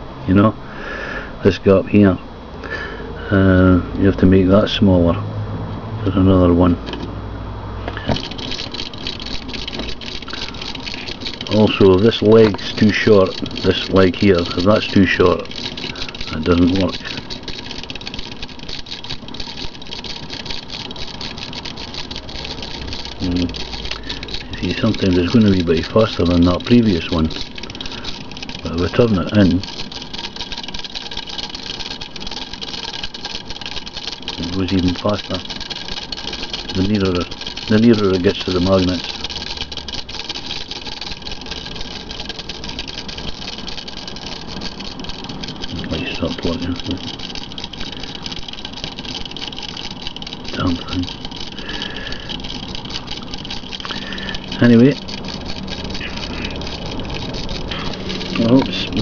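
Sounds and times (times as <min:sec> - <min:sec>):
small motor rattling buzz: 0:02.6 - 0:59.0
reed switch clicking rapidly: 0:07.9 - 0:59.0.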